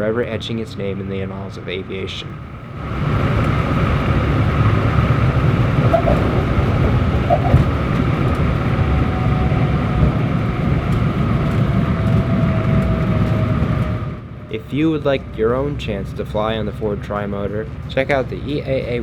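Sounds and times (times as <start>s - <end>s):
airplane engines droning: 0.0s - 19.0s.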